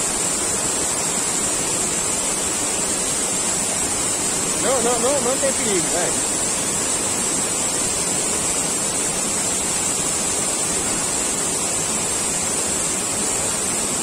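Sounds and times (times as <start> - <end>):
high hiss: 0.0 - 14.0
waterfall rushing: 0.0 - 14.0.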